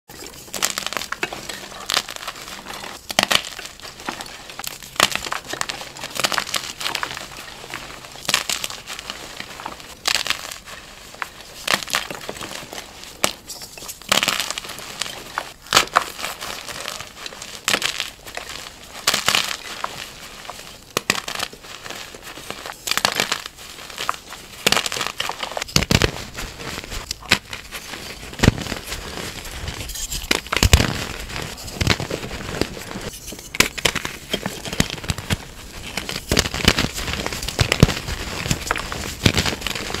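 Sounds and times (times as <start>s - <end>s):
chalk crunching and crackling: 0.1s - 40.0s.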